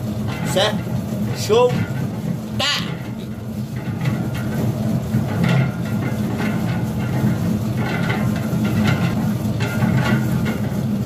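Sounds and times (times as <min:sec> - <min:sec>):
dough mixer motor hum: 0:00.0 - 0:11.0.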